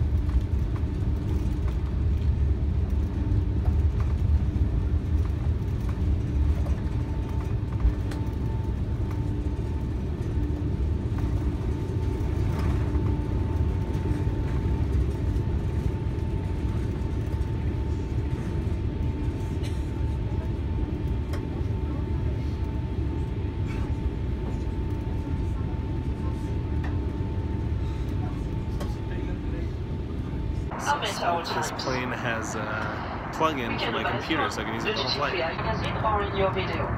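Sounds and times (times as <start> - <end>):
airplane cabin rumble: 0.0 - 36.9
faint steady whine: 0.0 - 36.9.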